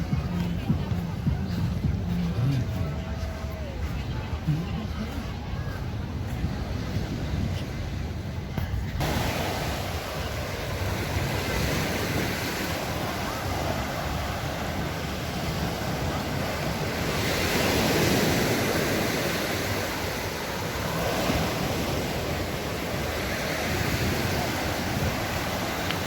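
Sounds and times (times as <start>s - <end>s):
waves washing onto beach: 0.0s - 26.0s
wind buffeting microphone: 0.0s - 26.0s.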